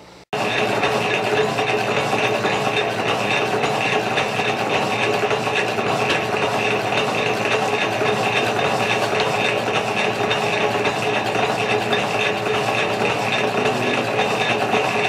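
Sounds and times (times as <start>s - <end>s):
constant machine whine: 0.0s - 15.0s
metal lathe cutting: 0.3s - 15.0s.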